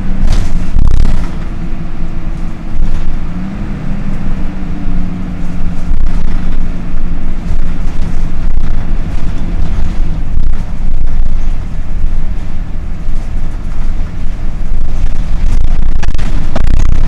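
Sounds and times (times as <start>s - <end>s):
bus engine running: 0.0s - 17.0s
radiator cooling fan hum: 0.0s - 17.0s.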